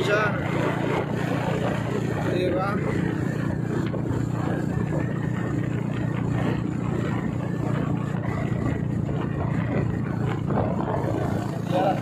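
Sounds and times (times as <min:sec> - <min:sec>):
motorcycle engine cruising: 0:00.0 - 0:12.0
wind noise: 0:00.0 - 0:12.0.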